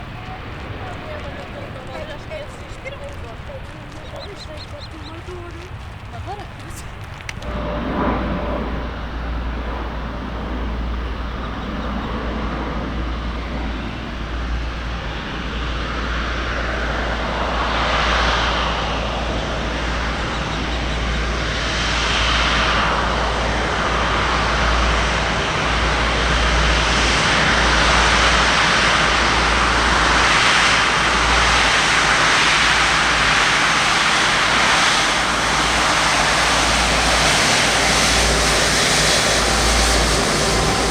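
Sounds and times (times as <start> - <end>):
jet airliner engines rushing: 0.0 - 40.9.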